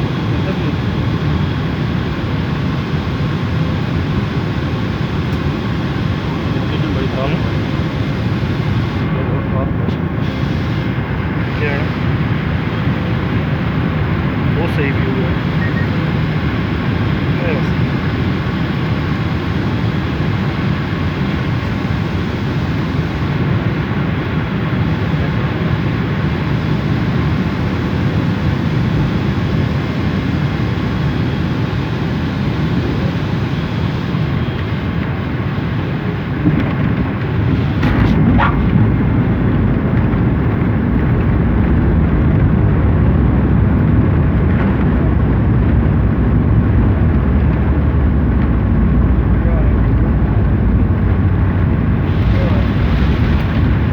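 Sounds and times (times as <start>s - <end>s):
airliner cabin roar: 0.0s - 53.9s.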